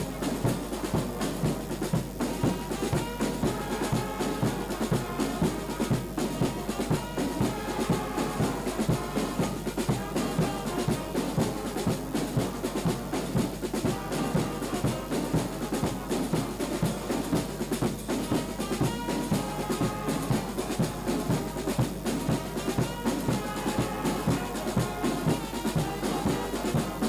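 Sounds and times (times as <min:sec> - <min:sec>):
fast drumbeat: 0:00.0 - 0:27.0
lively brass band music: 0:00.0 - 0:27.0.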